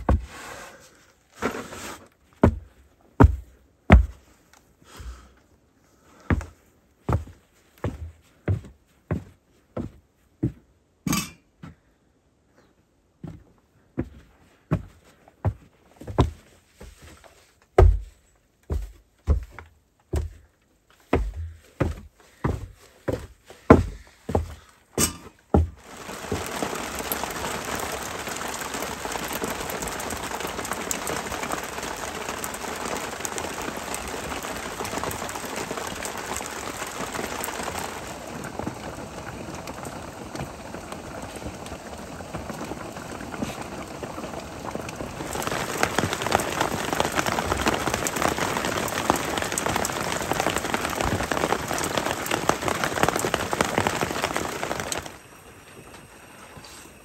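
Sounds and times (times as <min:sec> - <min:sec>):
steady rain falling: 0:00.0 - 0:08.7, 0:16.1 - 0:57.0.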